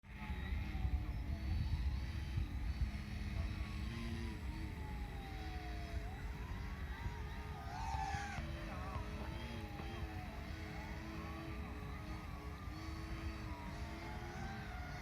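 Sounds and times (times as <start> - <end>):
model airplane engine in flight: 0.0 - 15.0
steady low rumble: 0.1 - 15.0.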